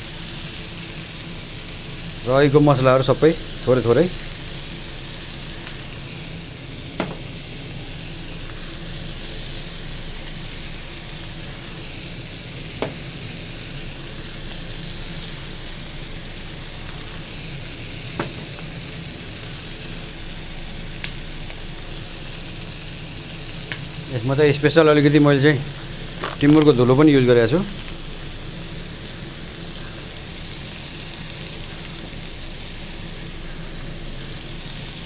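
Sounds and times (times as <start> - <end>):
chicken frying in oil: 0.0 - 35.0.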